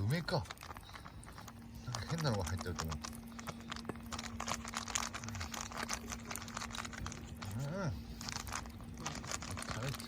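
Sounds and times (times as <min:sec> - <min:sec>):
bonfire crackling: 0:00.0 - 0:10.0.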